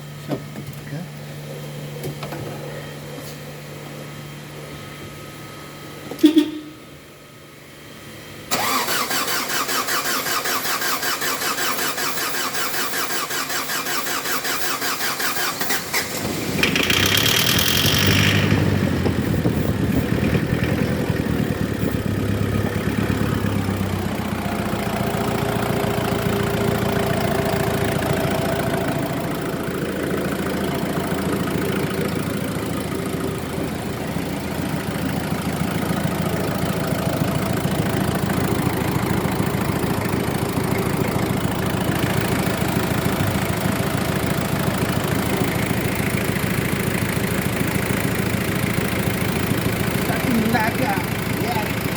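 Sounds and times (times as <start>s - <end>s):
diesel engine cranking and starting: 8.0s - 51.9s.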